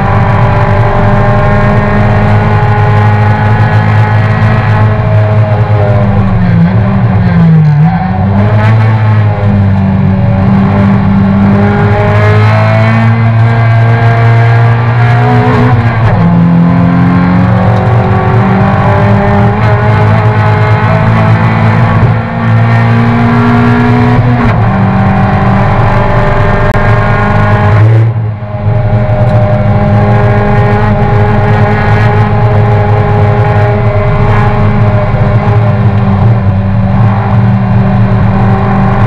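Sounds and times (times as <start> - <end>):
race car engine under load: 0.0 - 39.0.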